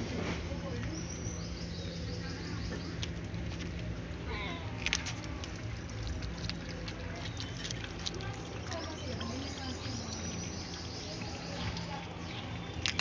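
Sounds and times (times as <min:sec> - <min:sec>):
cat chewing raw meat: 0:02.4 - 0:13.0.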